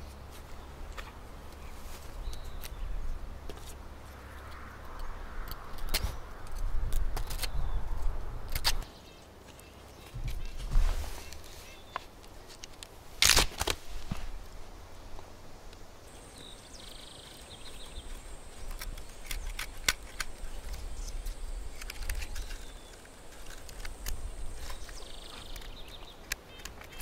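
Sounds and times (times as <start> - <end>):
low wind rumble: 0.0 - 9.4, 10.1 - 26.3.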